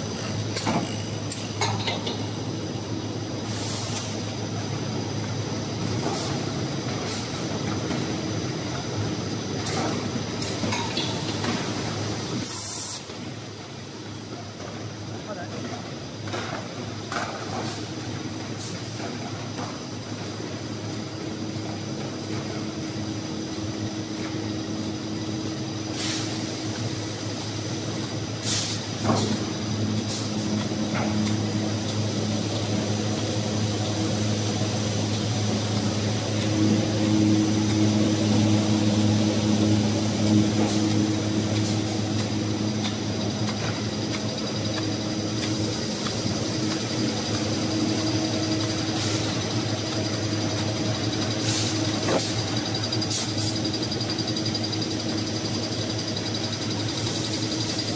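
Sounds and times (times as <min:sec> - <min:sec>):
machine hiss: 0:00.0 - 0:15.2, 0:16.1 - 0:57.9
production line machinery humming: 0:00.0 - 0:57.9.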